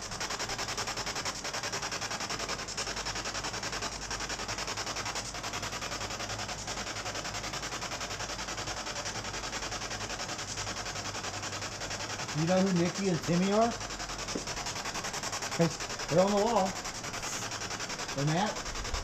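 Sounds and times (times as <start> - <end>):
pulsing static hiss: 0.0 - 19.0.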